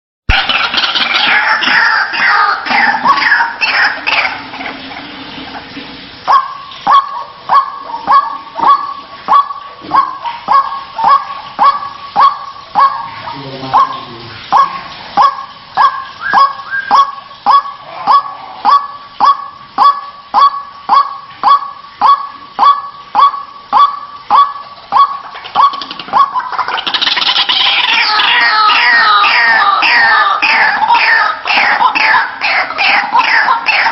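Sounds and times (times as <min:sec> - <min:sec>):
bird harsh calls: 0:00.3 - 0:04.6, 0:06.3 - 0:33.9.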